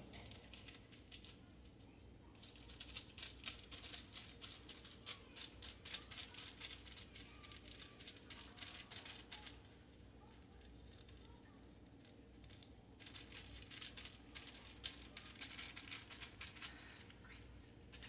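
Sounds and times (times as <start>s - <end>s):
sticky dough crackling: 0.0s - 18.0s.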